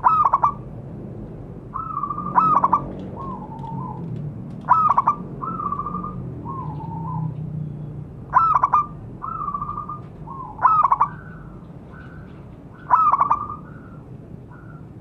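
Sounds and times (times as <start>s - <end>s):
dove stuttering coos: 0.0s - 0.6s, 1.7s - 7.4s, 8.3s - 15.0s.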